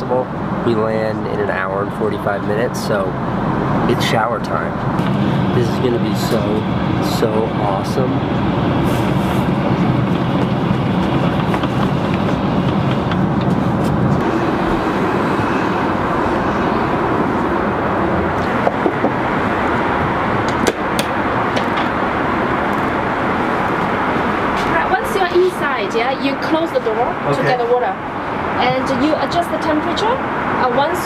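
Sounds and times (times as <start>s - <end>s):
airliner cabin engine rush: 0.0s - 31.0s.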